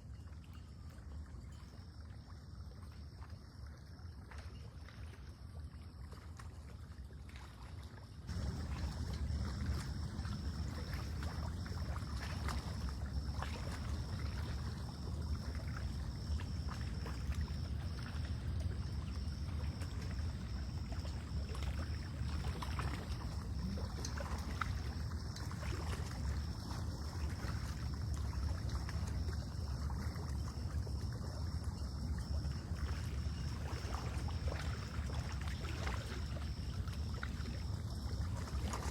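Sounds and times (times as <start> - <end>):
water lapping: 0.0 - 38.9.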